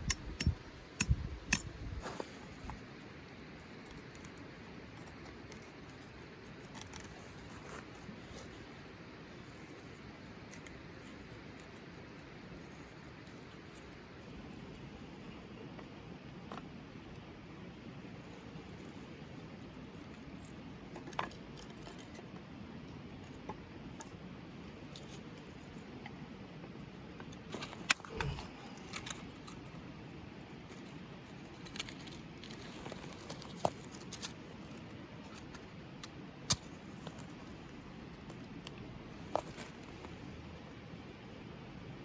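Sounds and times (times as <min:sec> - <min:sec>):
low steady background noise: 0:00.0 - 0:42.0.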